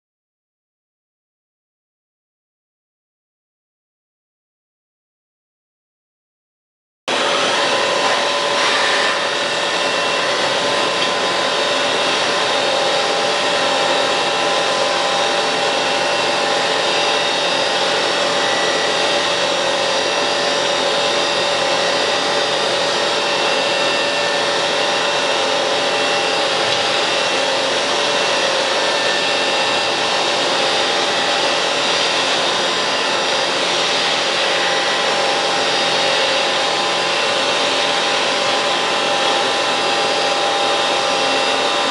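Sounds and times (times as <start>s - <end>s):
machining center whirring: 7.1s - 41.9s
steady whining tones: 7.1s - 41.9s.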